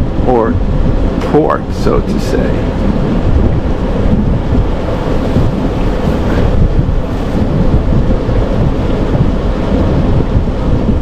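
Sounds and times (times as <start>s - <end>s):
boat moving under power: 0.0s - 11.0s
wind buffeting microphone: 0.0s - 11.0s.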